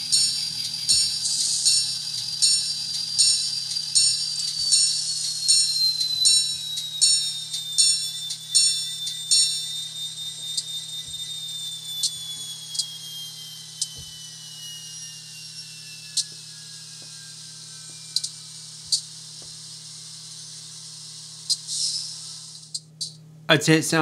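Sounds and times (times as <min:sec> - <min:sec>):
high whine falling in pitch: 0:00.0 - 0:22.9
steady low hum: 0:00.0 - 0:24.0.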